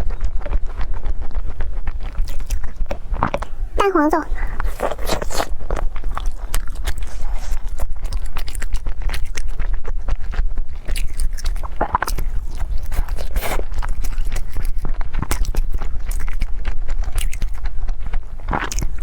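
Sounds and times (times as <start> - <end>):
person chewing and biting: 0.2 - 19.0
wet mouth clicks: 1.0 - 17.6.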